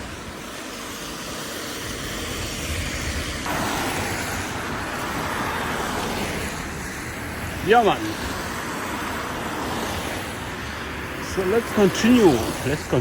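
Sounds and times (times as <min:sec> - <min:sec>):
traffic on a wet road: 0:00.0 - 0:13.0
vehicle passing close: 0:00.0 - 0:13.0.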